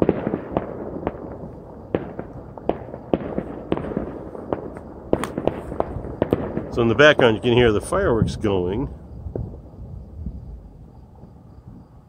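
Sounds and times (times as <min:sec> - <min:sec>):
fireworks cracking: 0:00.0 - 0:10.4.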